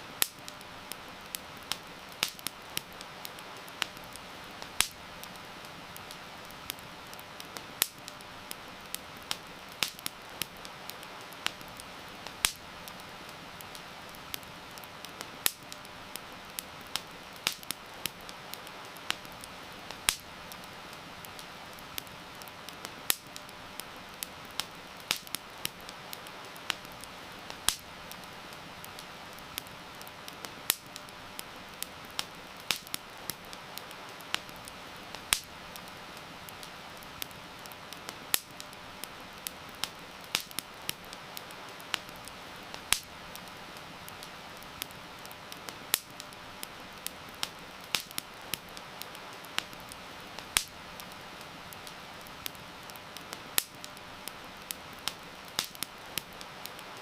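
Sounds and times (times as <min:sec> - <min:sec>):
heavy rain hiss: 0:00.0 - 0:57.0
wood fire crackling: 0:00.0 - 0:57.0.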